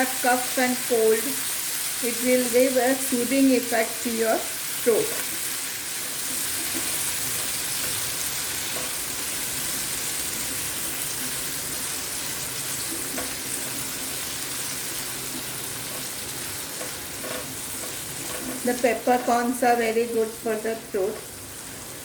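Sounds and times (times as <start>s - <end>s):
tomatoes sizzling in a pan: 0.0s - 22.0s.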